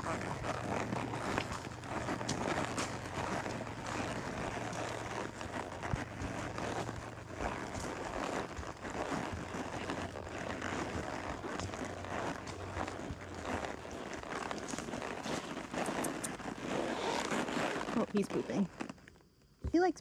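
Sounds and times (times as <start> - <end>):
horse hooves on dirt: 0.0 - 20.0.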